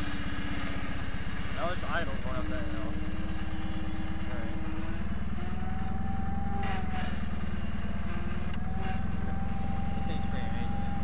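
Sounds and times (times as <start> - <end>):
lawn tractor engine running: 0.0 - 11.0
steady whine: 0.0 - 11.0.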